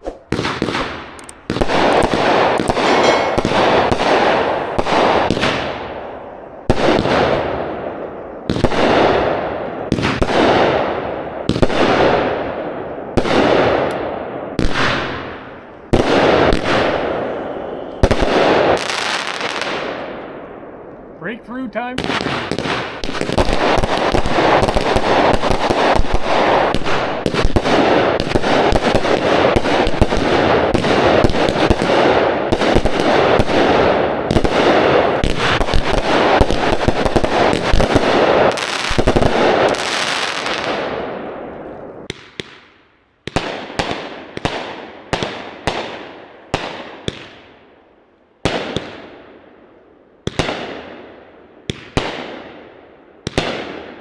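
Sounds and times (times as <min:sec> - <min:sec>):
single firework shots: 0:00.0 - 0:06.1, 0:06.7 - 0:20.4, 0:22.0 - 0:47.7, 0:48.4 - 0:49.6, 0:50.2 - 0:54.0
fireworks shots and breaking shells: 0:00.0 - 0:20.8, 0:21.6 - 0:54.0.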